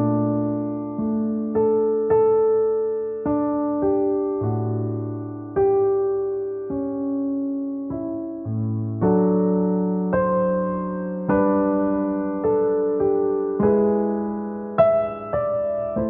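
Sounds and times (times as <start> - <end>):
slow soft piano music: 0.0 - 16.0.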